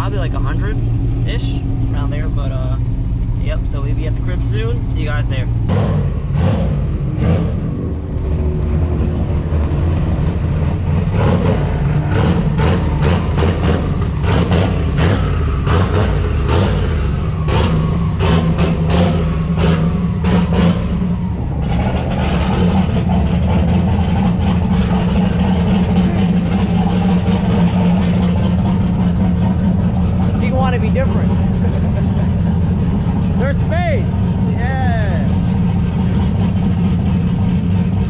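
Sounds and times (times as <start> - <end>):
car engine droning: 0.0 - 38.0.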